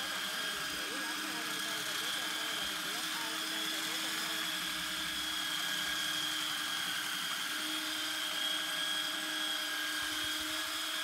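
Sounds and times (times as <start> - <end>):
power sander on wood: 0.0 - 11.0.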